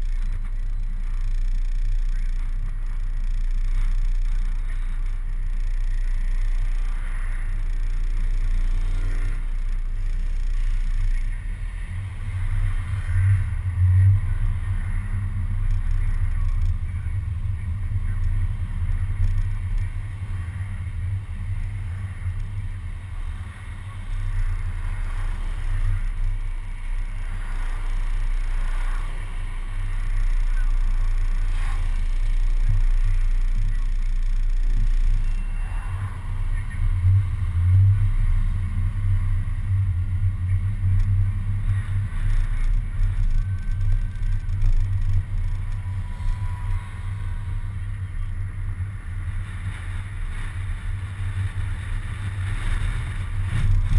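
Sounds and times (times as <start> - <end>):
bus engine rumble: 0.0 - 53.9.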